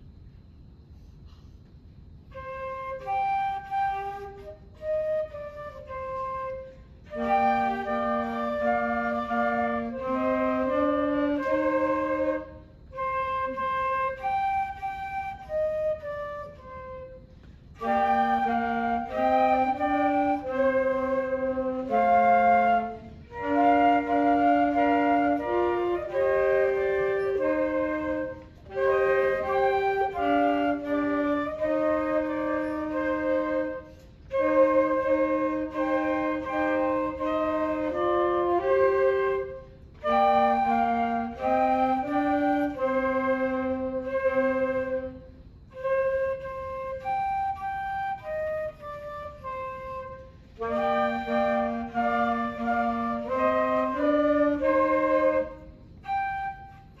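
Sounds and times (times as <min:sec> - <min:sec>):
flute melody: 0:02.2 - 0:57.0
woodwind ensemble playing: 0:02.2 - 0:57.0.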